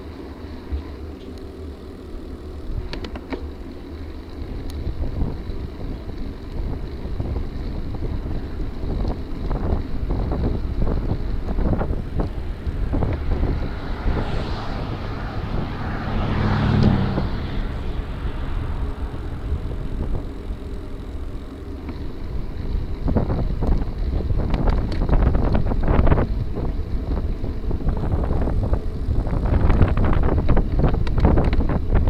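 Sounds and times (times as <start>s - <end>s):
bike rattling over rough trail: 0.0s - 32.0s
wind buffeting microphone: 4.4s - 32.0s.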